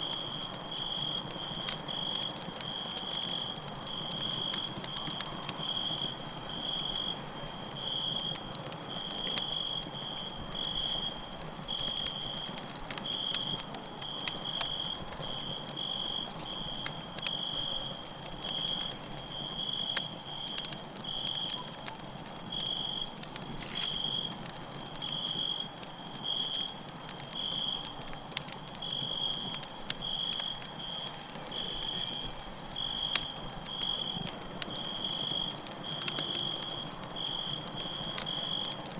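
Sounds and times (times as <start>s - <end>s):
crickets chirping: 0.0s - 38.8s
campfire crackling and popping: 0.0s - 38.9s.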